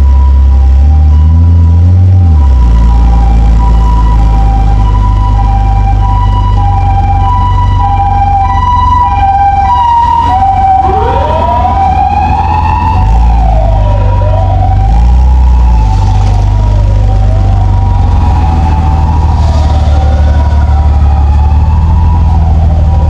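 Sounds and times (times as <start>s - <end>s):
engine and road rumble: 0.0s - 23.0s
two-tone siren: 0.0s - 23.0s
wailing siren: 0.0s - 23.0s.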